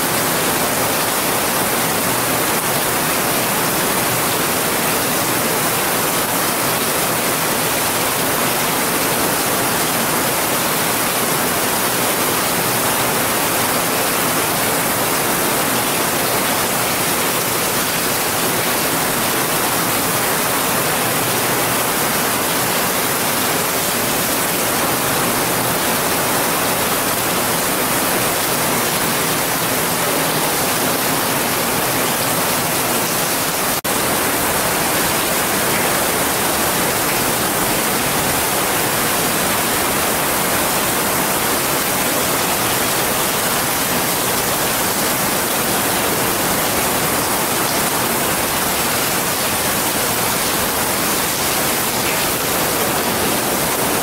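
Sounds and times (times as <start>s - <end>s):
rain on grass and water: 0.0s - 54.0s.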